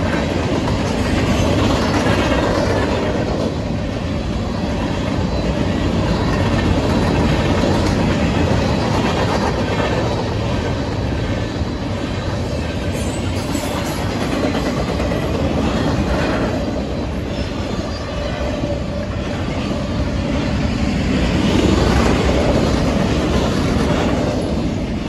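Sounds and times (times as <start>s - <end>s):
train wheels rushing on rails: 0.0s - 25.0s.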